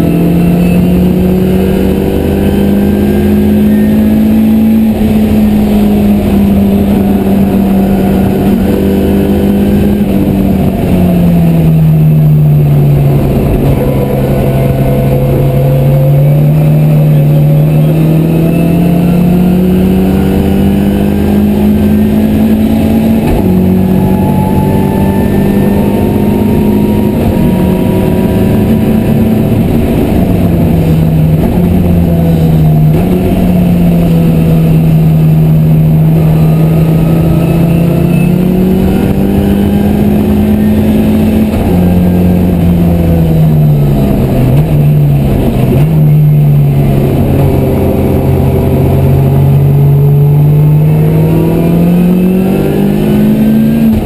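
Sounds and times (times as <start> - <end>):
car engine under hard driving: 0.0 - 54.0.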